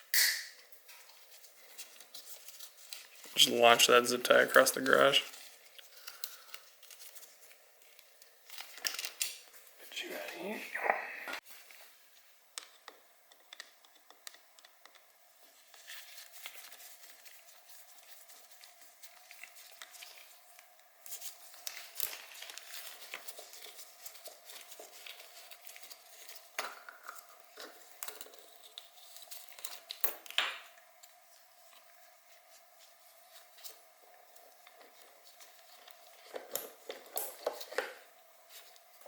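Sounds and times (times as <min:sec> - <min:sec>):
parts and wiring rustling: 0:00.8 - 0:10.2, 0:13.5 - 0:39.0.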